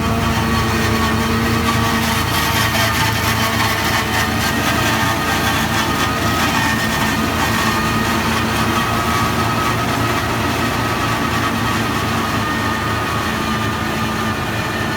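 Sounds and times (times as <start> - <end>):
harvester mechanical drone: 0.0 - 14.9.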